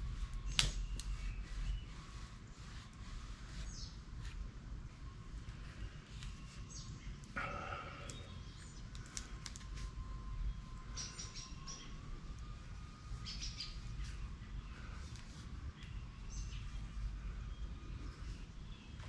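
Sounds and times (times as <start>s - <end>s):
low steady rumble: 0.0s - 19.0s
small birds chirping: 0.2s - 4.4s, 5.5s - 9.6s, 10.5s - 19.0s.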